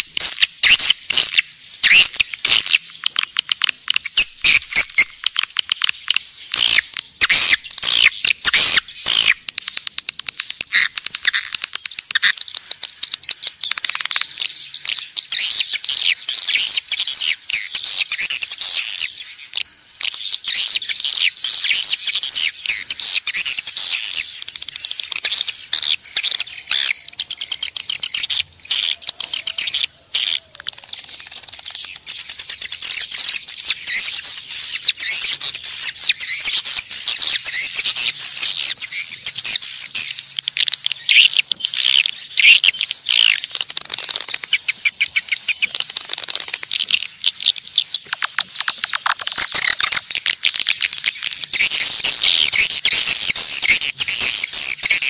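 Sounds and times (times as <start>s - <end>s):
swiftlets twittering: 0.0s - 55.0s.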